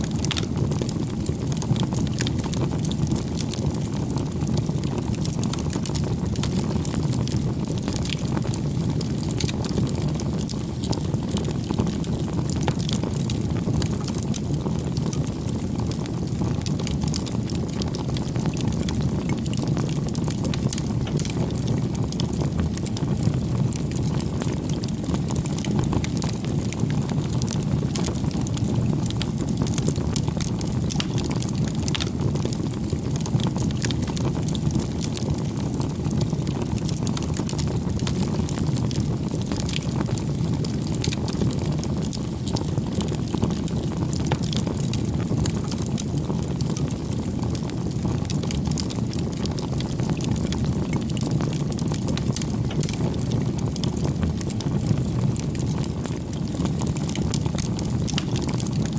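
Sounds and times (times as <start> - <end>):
fire crackling and popping: 0.0 - 58.9
fire flames rushing: 0.1 - 58.8.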